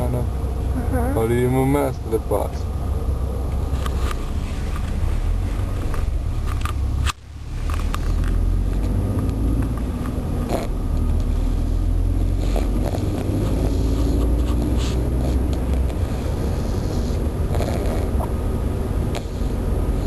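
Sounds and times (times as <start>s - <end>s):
car driving rumble inside cabin: 0.0s - 20.0s.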